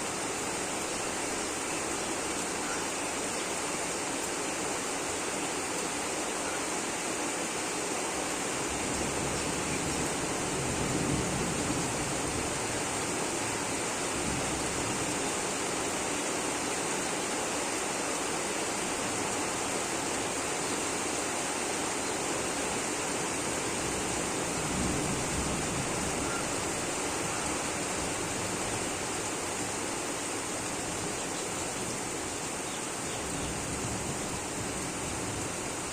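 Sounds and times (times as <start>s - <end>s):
rain pouring down: 0.0s - 35.9s.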